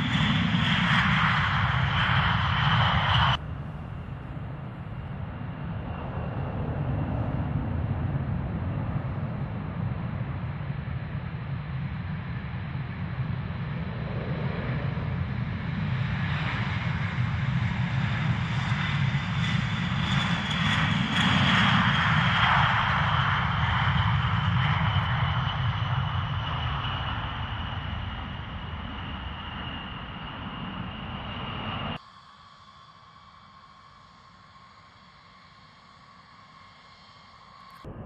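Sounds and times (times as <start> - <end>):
jet engines roaring with whine: 0.0 - 38.0.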